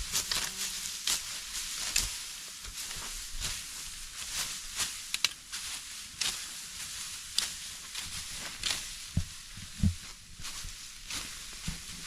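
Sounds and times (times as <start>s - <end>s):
dry rustling and crunching: 0.0s - 12.0s.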